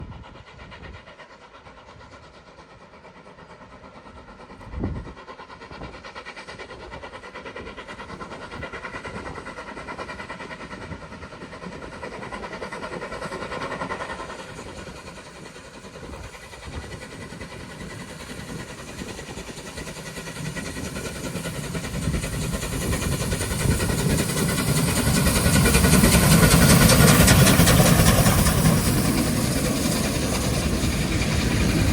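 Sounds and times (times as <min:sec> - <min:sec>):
steam locomotive running: 0:00.0 - 0:31.9.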